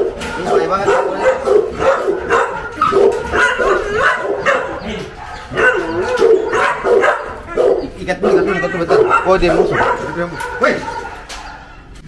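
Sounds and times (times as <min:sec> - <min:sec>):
dog barking and yipping: 0:00.0 - 0:12.0.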